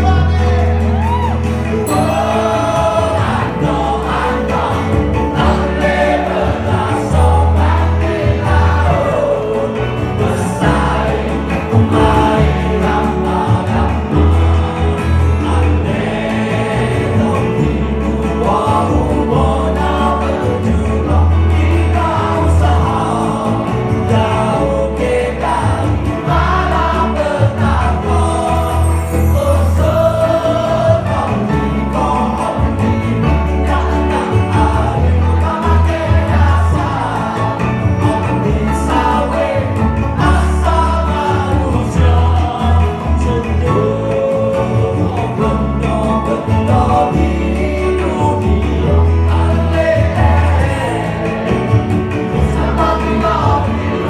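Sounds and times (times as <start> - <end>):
backing vocals: 0.0 - 54.0
drums and percussion: 0.0 - 54.0
man singing lead vocals: 0.0 - 54.0.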